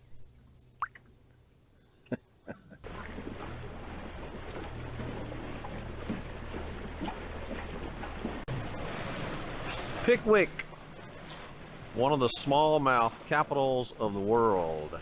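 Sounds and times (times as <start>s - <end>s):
boat motor hum: 2.6s - 15.0s
wind and water noise: 2.6s - 15.0s.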